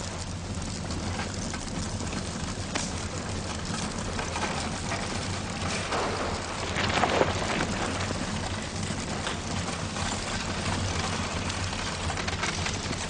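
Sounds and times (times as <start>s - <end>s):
lava crackling and hissing: 0.0s - 13.0s.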